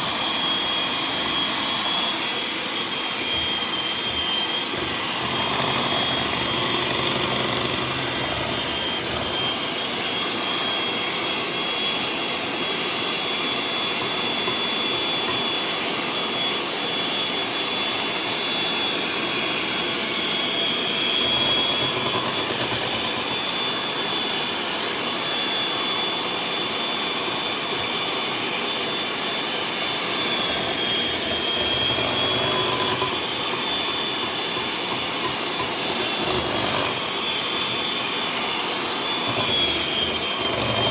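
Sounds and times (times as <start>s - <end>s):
electric hand mixer whirring: 0.0s - 40.9s.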